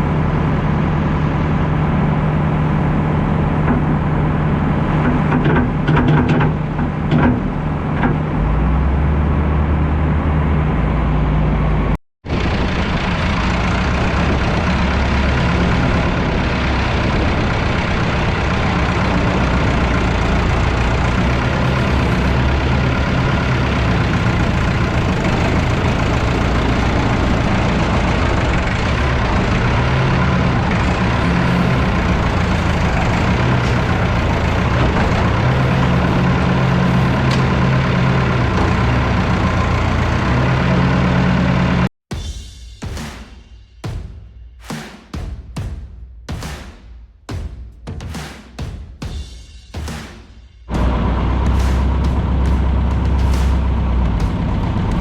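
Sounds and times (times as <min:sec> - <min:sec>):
tractor engine running: 0:00.0 - 0:41.9, 0:50.7 - 0:55.0.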